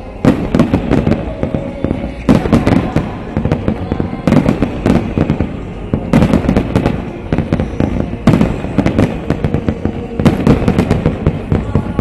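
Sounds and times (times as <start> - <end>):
fireworks bursting with bangs: 0.0 - 12.0
rumbling echo: 0.0 - 12.0.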